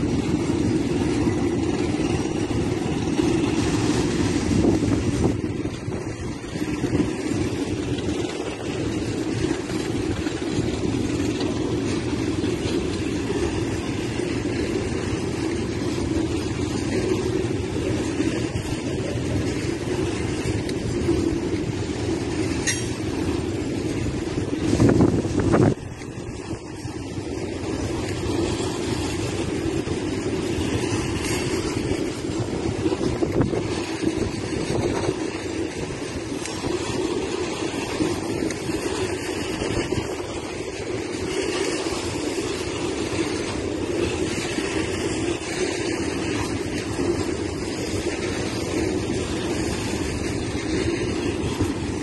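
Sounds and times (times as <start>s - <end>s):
freight wagons rumbling on rails: 0.0s - 52.0s
wind buffeting microphone: 0.0s - 52.0s.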